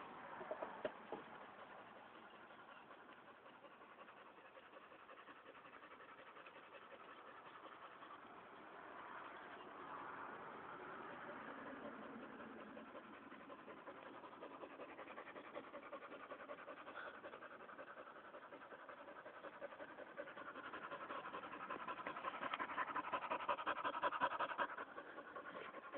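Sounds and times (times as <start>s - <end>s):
dog panting: 0.4s - 25.9s.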